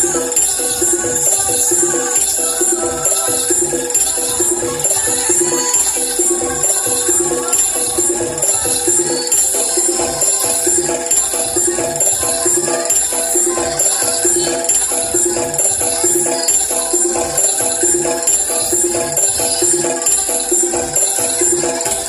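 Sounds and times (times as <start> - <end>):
jingling percussion: 0.0 - 22.0
rhythmic music with steady beat: 0.0 - 22.0.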